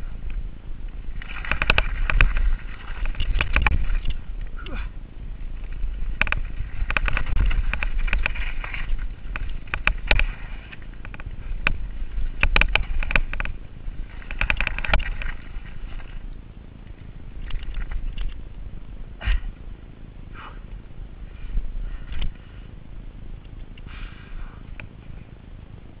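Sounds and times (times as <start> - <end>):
mountain bike rattling and knocking: 0.0 - 19.6, 20.4 - 23.8
tyres and wind rumble: 0.0 - 26.0.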